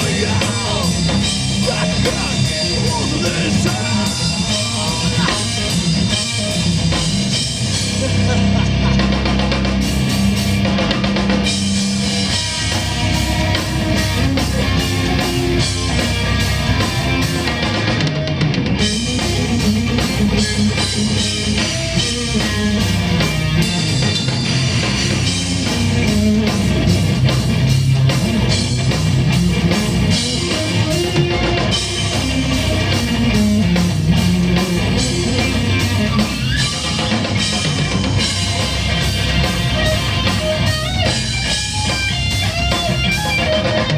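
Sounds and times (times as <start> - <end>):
bass: 0.0 - 43.9
drum kit: 0.0 - 43.9
electric guitar: 0.0 - 43.9.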